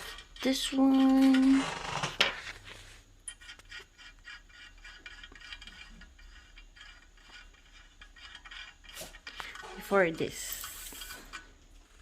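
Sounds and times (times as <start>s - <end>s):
light rubbing and scraping: 0.0s - 12.0s.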